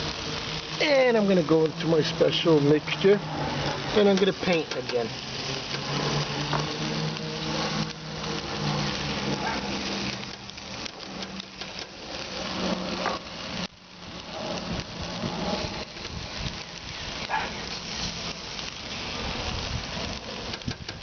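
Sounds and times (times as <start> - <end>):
chicken sizzling on charcoal grill: 0.0 - 21.0.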